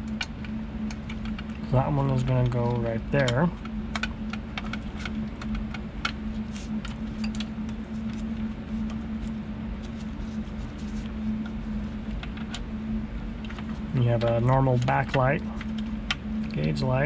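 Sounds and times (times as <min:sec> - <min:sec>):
steady low hum: 0:00.0 - 0:17.0
light clicks and rustles of handling: 0:00.2 - 0:12.7, 0:13.4 - 0:17.0.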